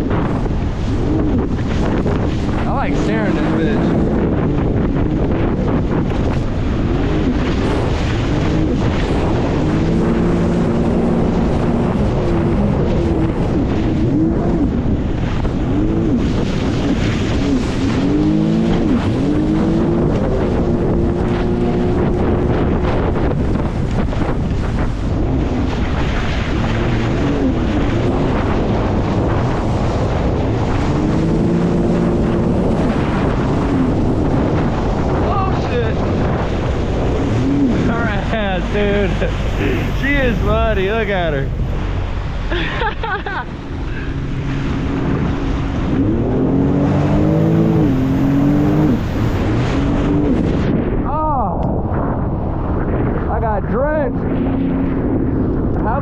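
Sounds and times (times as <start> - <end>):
water rushing: 0.0 - 55.0
jet ski engine running: 0.0 - 56.0
wind buffeting on microphone: 0.0 - 56.0.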